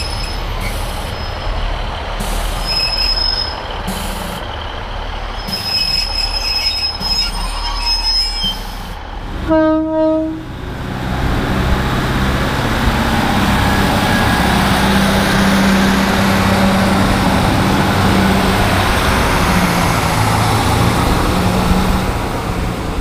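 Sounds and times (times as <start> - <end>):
low diesel engine hum: 0.0 - 7.2, 8.6 - 23.0
rush of wheels on rail: 0.0 - 23.0.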